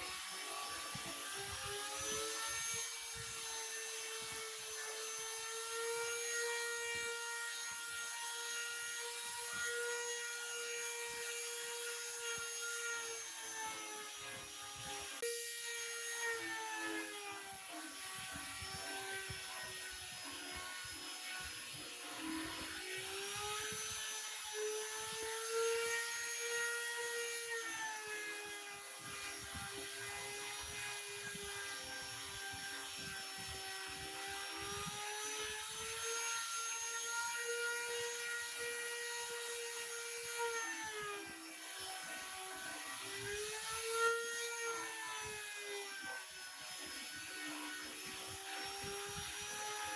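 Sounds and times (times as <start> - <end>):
power tool motor whining: 0.0 - 49.9.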